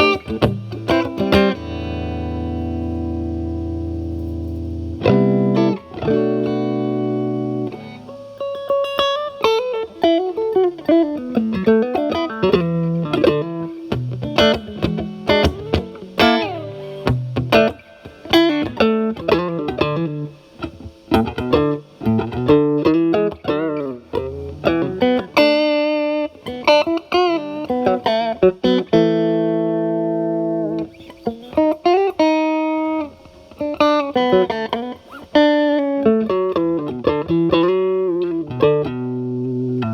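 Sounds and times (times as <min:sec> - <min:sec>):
electric guitar chords: 0:00.0 - 0:39.9
overdriven electric guitar lead: 0:00.0 - 0:39.9.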